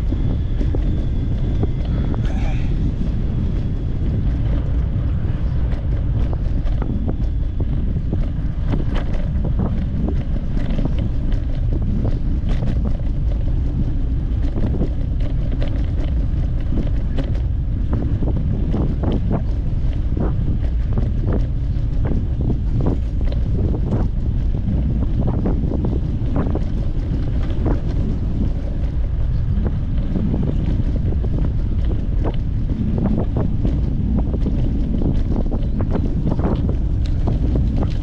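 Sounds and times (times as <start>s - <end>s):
wind buffeting microphone: 0.0s - 38.0s
small sharp clicks and rattles: 4.3s - 38.0s.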